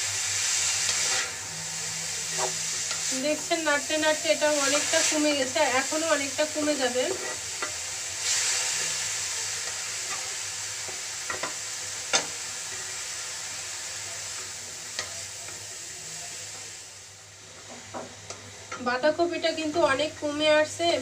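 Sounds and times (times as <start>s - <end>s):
cabbage sizzling in hot oil: 0.0s - 21.0s.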